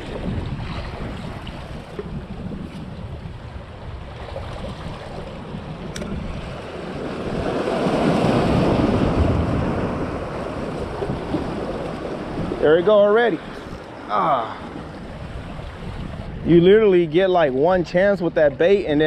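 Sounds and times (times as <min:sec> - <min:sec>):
ocean waves washing against rocks: 0:00.0 - 0:19.0
wind on microphone: 0:00.0 - 0:19.0.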